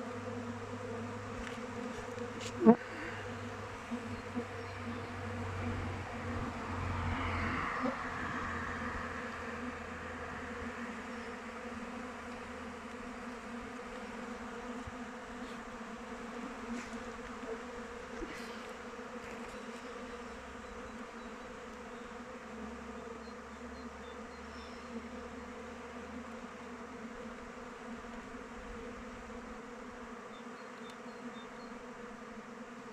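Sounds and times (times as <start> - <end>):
bees buzzing: 0.0 - 32.9.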